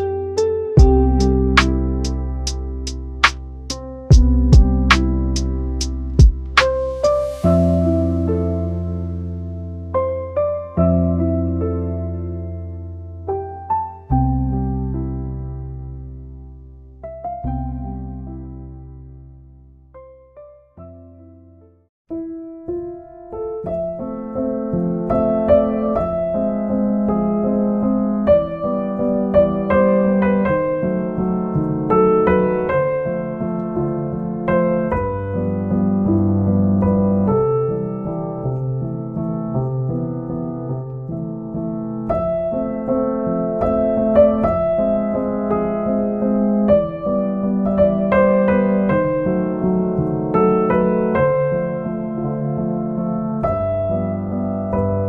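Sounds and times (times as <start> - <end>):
gentle piano piece: 0.0 - 55.0.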